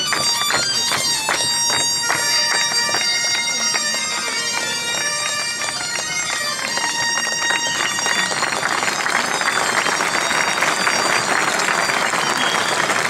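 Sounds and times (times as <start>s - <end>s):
bagpipe dance tune: 0.0s - 13.0s.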